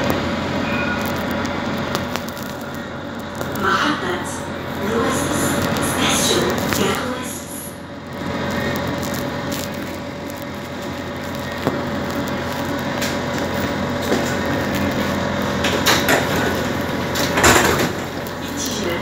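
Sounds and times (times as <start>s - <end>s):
tram electric hum: 0.0s - 19.0s.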